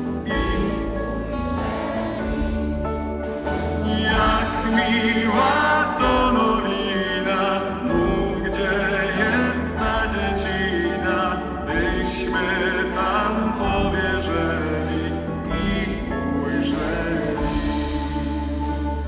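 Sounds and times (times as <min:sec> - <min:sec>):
man singing lead vocals: 0:00.0 - 0:02.6, 0:03.7 - 0:18.8
rock band playing: 0:00.0 - 0:19.0.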